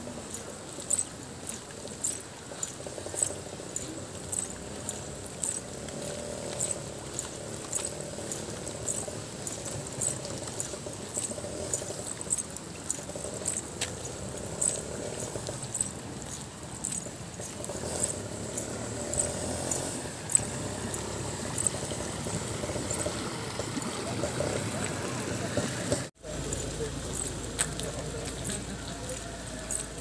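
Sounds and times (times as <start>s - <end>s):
water rushing in channel: 0.0s - 30.0s.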